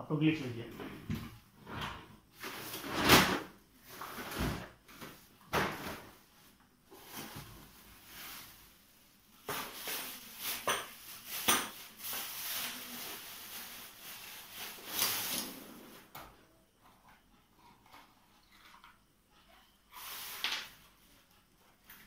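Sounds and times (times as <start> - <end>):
rustling and handling noises: 2.4 - 22.0.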